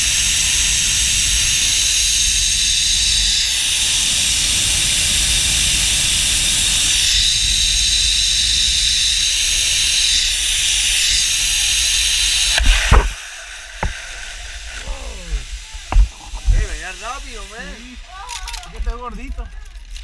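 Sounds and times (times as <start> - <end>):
wind rumbling on microphone: 0.0 - 11.0, 12.1 - 20.0
zipline pulleys hissing on cable: 0.0 - 20.0.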